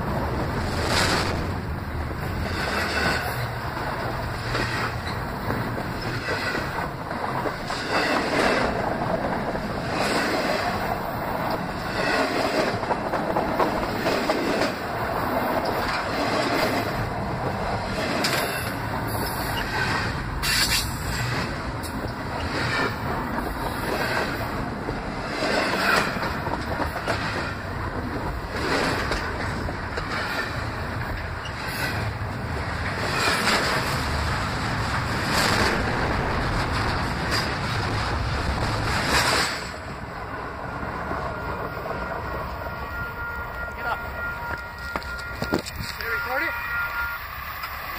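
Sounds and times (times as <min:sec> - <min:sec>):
steel wheels rumbling on rail: 0:00.0 - 0:47.9.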